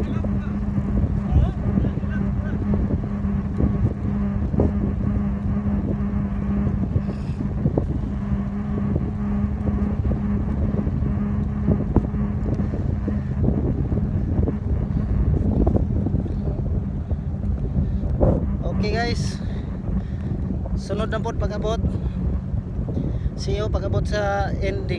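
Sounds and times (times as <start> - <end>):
steady low hum: 0.0 - 24.9
tyre and road rumble: 0.0 - 24.9
wind buffeting microphone: 0.0 - 24.9.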